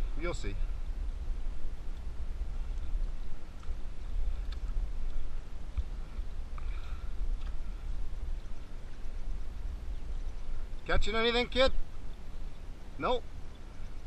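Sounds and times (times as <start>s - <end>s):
water washing along hull: 0.0s - 14.0s.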